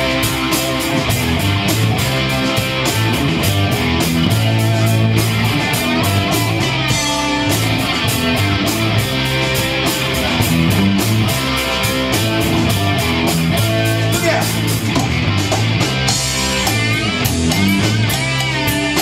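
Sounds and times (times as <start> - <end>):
drum kit steady beat: 0.0 - 19.0
electric guitars and bass: 0.0 - 19.0.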